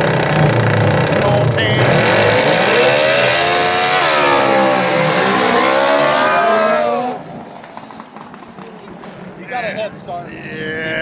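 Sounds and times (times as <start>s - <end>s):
racing lawn mower engines revving: 0.0s - 9.8s.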